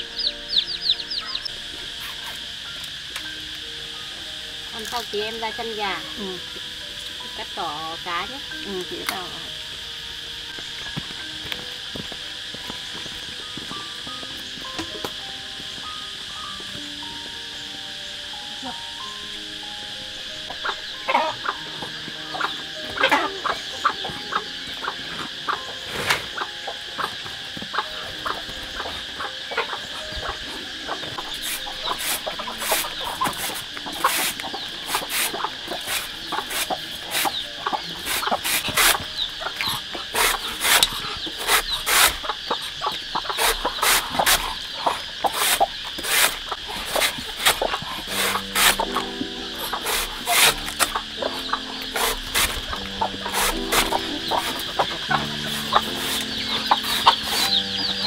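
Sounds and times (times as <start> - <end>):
chickens clucking: 0.0 - 58.0
steady high drone: 0.0 - 58.0.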